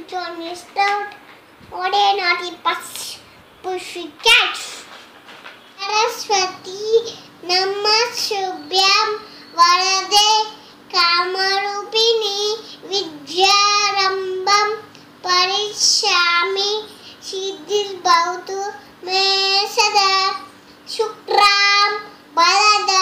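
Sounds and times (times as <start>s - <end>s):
young child singing: 0.0s - 4.9s, 5.8s - 23.0s.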